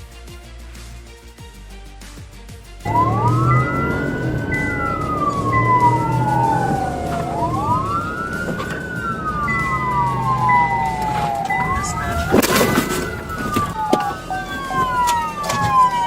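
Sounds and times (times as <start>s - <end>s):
moving vehicles: 2.9s - 16.0s
police sirens wailing: 2.9s - 16.0s.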